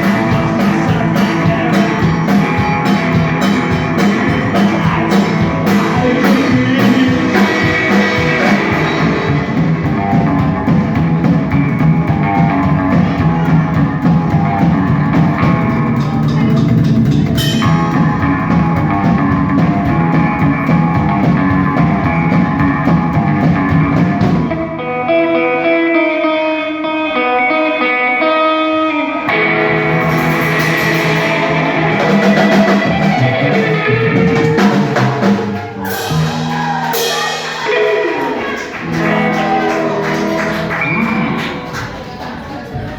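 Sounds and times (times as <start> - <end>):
electric guitar: 0.0 - 42.9
rock band playing live: 0.0 - 42.9.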